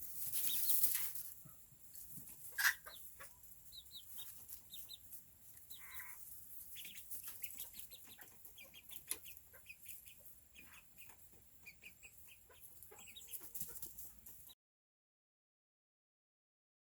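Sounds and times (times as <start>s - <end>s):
chicks peeping: 0.0s - 14.5s
chicken clucking: 0.2s - 14.5s.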